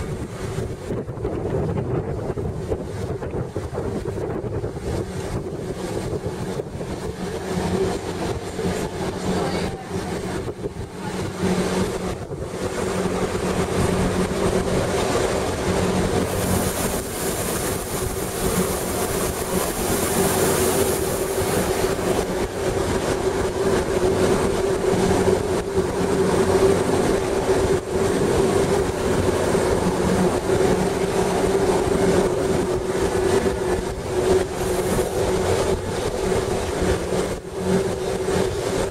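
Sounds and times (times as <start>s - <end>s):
train running gear rumble: 0.0s - 38.9s.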